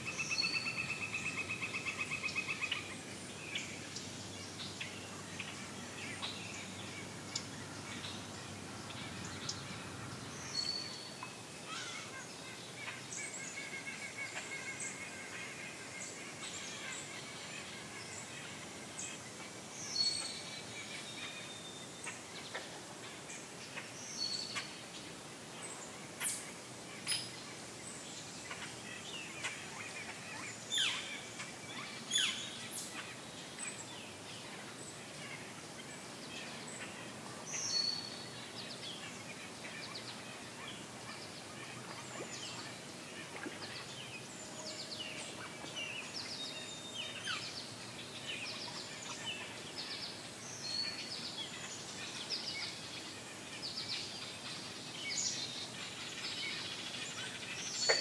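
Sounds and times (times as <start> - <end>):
songbirds chirping and trilling: 0.0 - 58.0
steady background hiss: 0.0 - 58.0.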